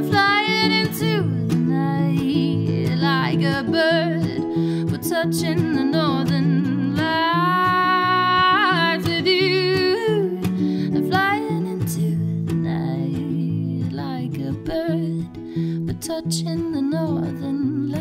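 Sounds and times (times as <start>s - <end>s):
guitar accompaniment: 0.0s - 18.0s
woman singing: 0.0s - 18.0s.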